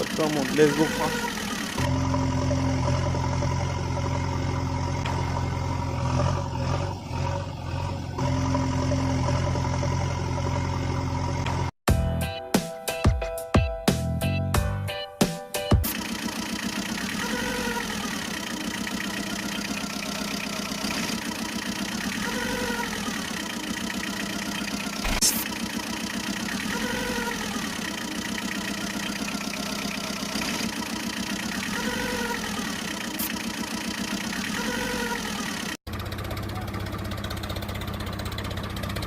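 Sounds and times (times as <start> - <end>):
engine idling: 0.0 - 11.7, 15.8 - 39.0.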